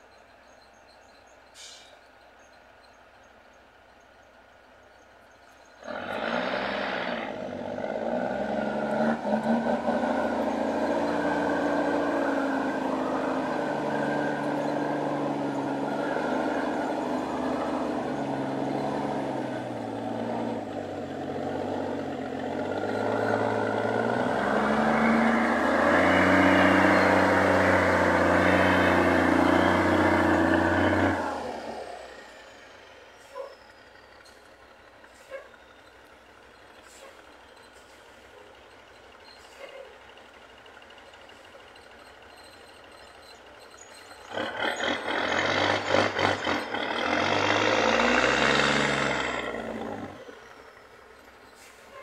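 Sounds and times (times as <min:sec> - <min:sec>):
diesel truck engine labouring: 0:05.4 - 0:52.0.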